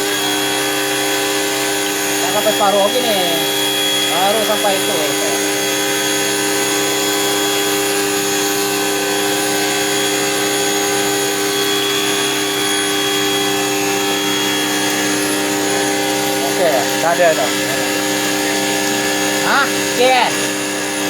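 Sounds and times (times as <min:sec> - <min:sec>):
drain-cleaning machine motor running: 0:00.0 - 0:21.0.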